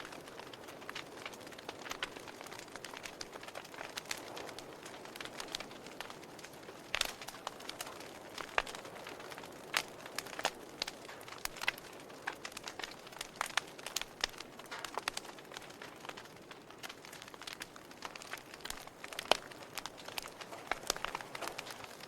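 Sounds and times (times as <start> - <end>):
sharp pops and snaps: 0.0 - 22.0
soft fire hiss: 0.0 - 22.0
wood fire crackling: 0.0 - 22.0.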